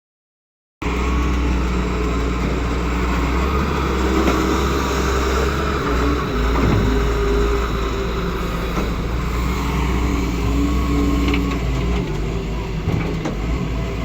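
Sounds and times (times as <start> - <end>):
excavator diesel engine running: 0.8 - 14.0.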